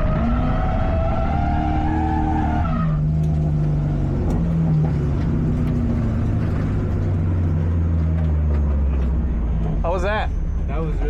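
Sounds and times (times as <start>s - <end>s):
car engine at high revs: 0.0s - 9.8s
tyres skidding: 0.0s - 11.0s.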